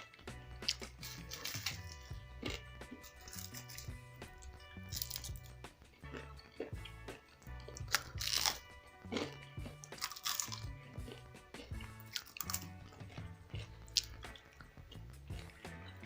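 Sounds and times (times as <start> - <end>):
background music: 0.0 - 16.0
crunching and chewing: 0.0 - 16.0.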